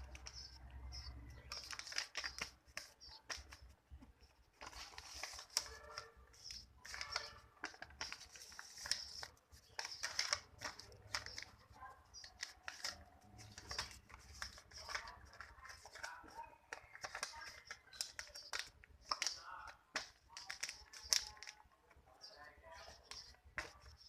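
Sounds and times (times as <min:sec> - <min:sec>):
paper rustling and crackling: 0:00.0 - 0:22.0, 0:22.7 - 0:24.0.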